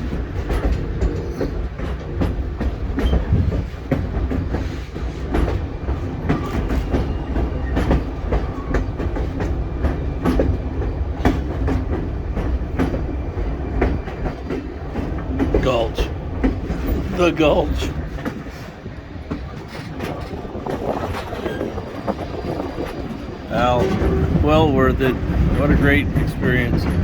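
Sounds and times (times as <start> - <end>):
railway car rumble: 0.0 - 27.0
wheels clicking over rails: 0.0 - 27.0.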